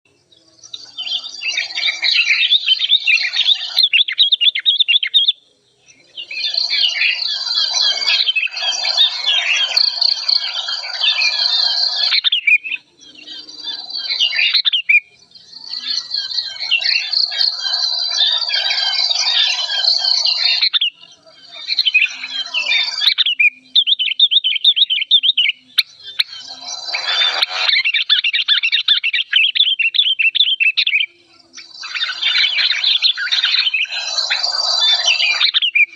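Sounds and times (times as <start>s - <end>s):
bird chattering calls: 6.3s - 35.9s.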